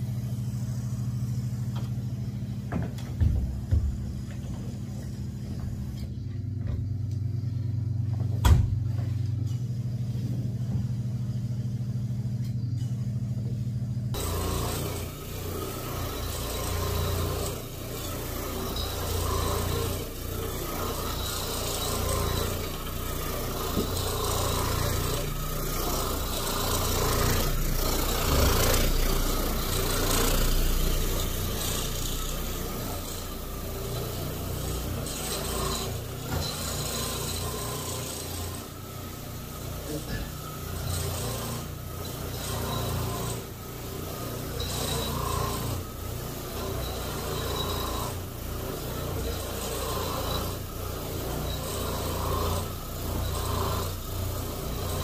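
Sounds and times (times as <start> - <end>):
floor machine scrubbing carpet: 0.0 - 6.3, 13.4 - 55.0
electric motor hum: 0.0 - 55.0.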